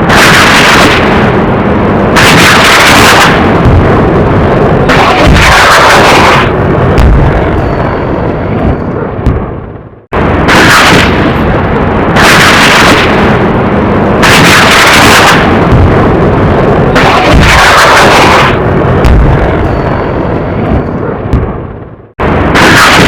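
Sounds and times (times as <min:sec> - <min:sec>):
rockets firing blast: 0:00.0 - 0:23.0.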